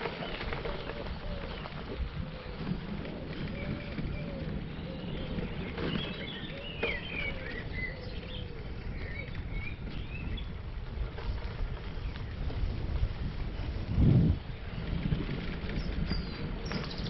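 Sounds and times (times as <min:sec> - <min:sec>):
birds chirping: 0:00.0 - 0:12.7, 0:14.3 - 0:17.0
bicycle tyres rolling on gravel: 0:00.0 - 0:17.0.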